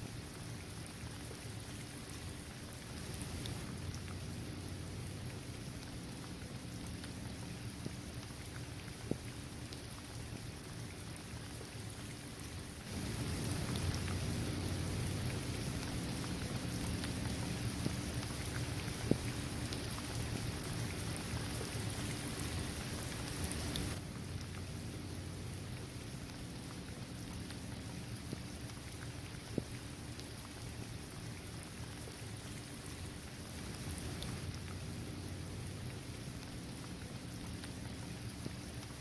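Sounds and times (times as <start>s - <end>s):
steady rain falling: 0.0s - 39.0s
raindrops ticking: 2.1s - 11.7s, 12.5s - 32.2s, 32.8s - 39.0s.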